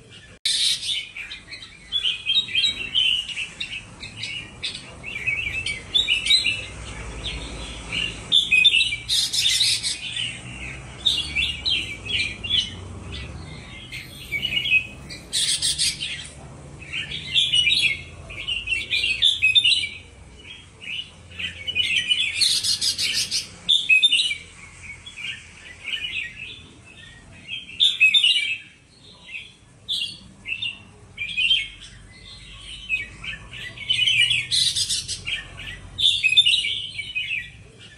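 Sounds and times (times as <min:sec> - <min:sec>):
bulbuls singing: 0:00.0 - 0:37.9.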